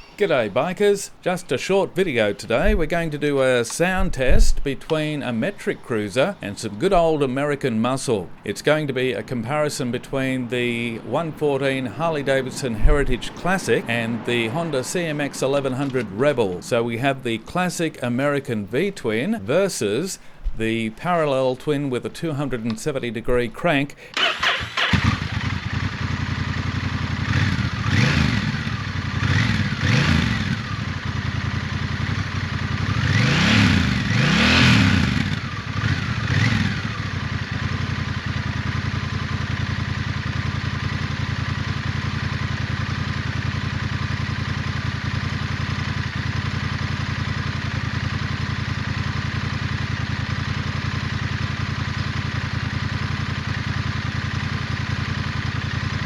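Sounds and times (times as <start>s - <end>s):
motorcycle engine revving and idling: 0.0s - 21.0s, 24.0s - 56.0s.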